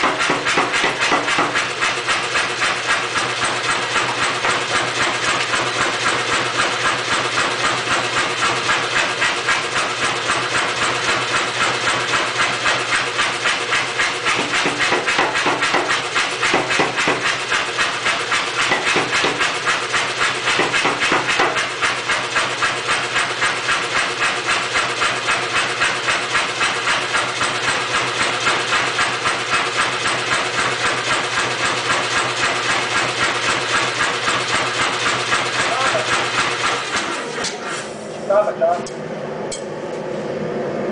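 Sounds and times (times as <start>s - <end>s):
power hammer knocking: 0.0s - 37.6s.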